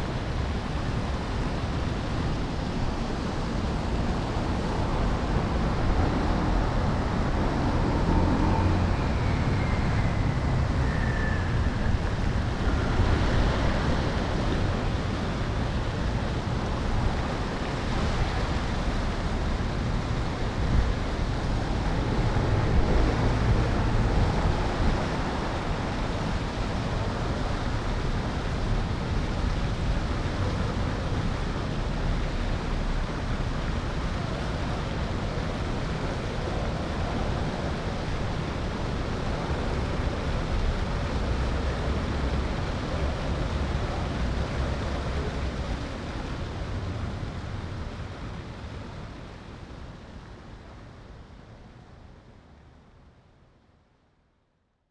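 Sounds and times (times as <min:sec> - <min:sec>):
wind rushing over camera: 0:00.0 - 0:51.7.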